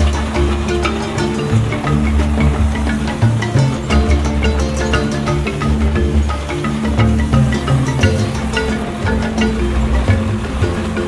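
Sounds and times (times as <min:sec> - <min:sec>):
music with deep bass and beat: 0:00.0 - 0:11.0.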